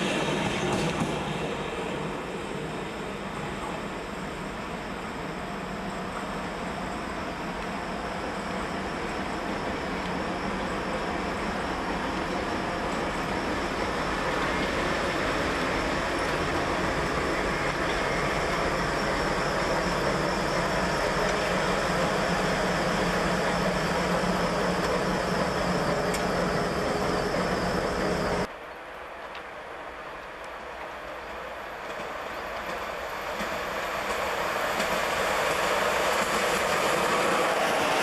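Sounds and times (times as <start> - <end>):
diesel locomotive engine humming: 0.0 - 28.5, 30.4 - 38.0.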